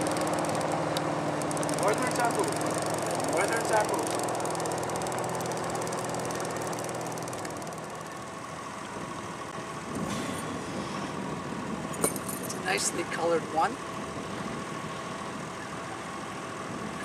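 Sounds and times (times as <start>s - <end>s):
small boat motor humming: 0.0s - 17.0s.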